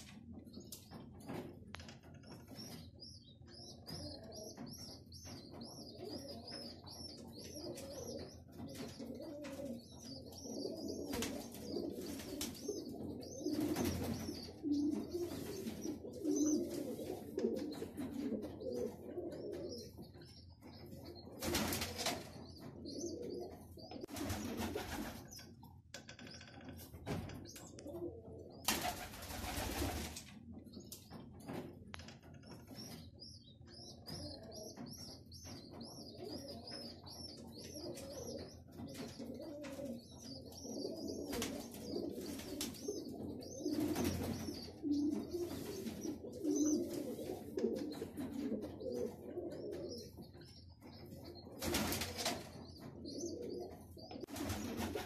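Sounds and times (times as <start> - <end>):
pigeons cooing: 2.5 - 25.6, 27.2 - 31.6, 32.7 - 55.0.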